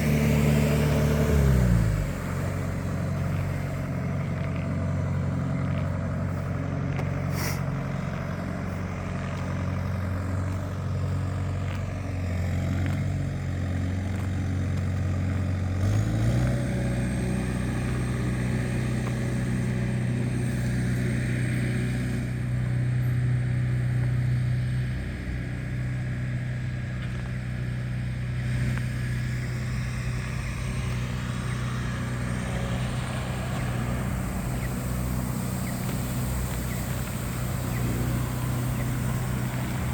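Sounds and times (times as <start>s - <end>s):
large engine humming: 0.0s - 39.9s.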